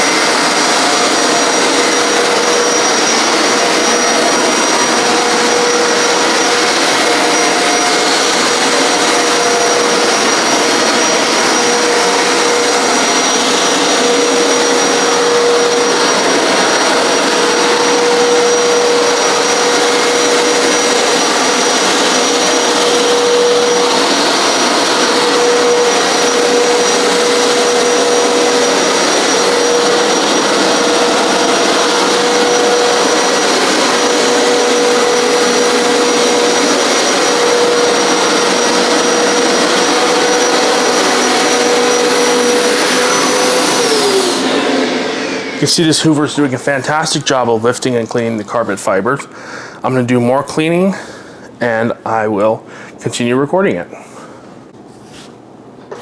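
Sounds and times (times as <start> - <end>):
carpet cleaner running: 0.0 - 53.0, 53.8 - 56.0.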